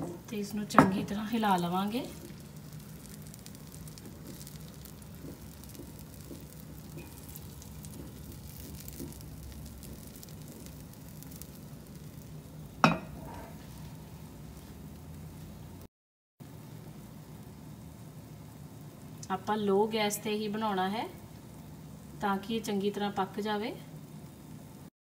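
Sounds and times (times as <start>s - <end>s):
batter sizzling in a pan: 0.0s - 24.9s
steady low hum: 0.0s - 24.9s.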